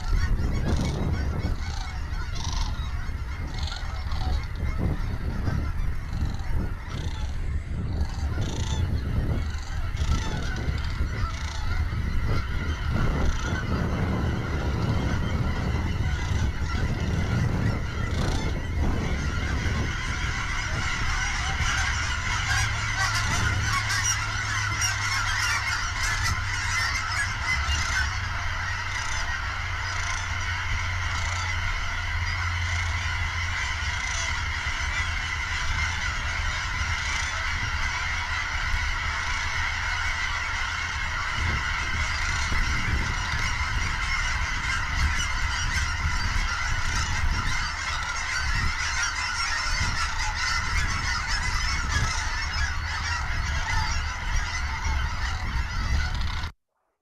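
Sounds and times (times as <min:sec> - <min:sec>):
low steady rumble: 0:00.0 - 0:56.5
young cranes whistling: 0:00.0 - 0:56.5
adult cranes calling: 0:00.0 - 0:56.6.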